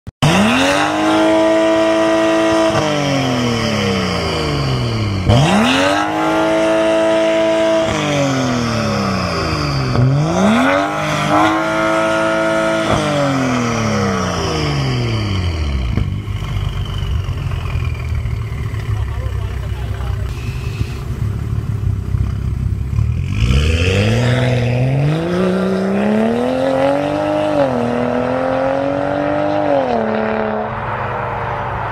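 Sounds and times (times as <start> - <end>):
car engine revving: 0.2 - 31.9.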